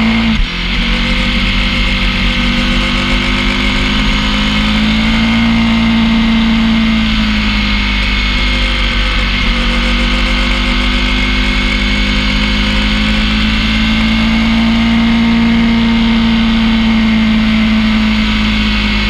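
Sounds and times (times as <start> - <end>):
high steady whine: 0.0 - 19.0
motorcycle engine revving: 0.0 - 19.0.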